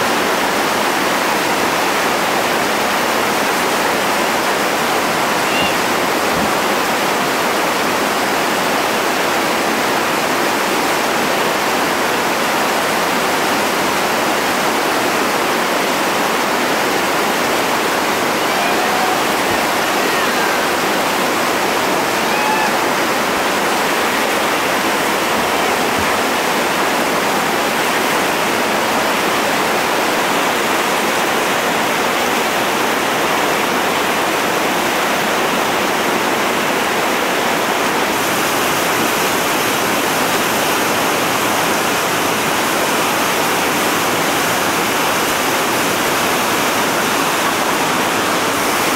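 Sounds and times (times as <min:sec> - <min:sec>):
whitewater rapids rushing: 0:00.0 - 0:48.9.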